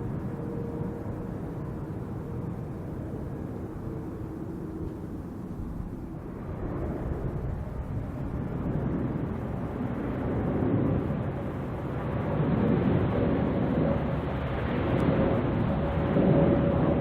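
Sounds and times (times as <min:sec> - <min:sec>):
jet engines rumbling: 0:00.0 - 0:17.0
steady jet whine: 0:00.0 - 0:17.0.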